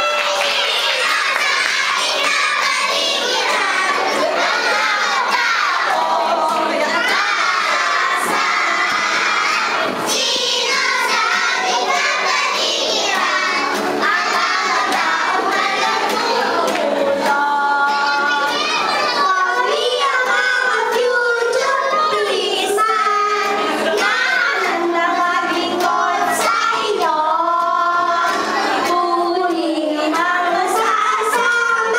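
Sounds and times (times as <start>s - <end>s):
children singing: 0.0s - 31.9s.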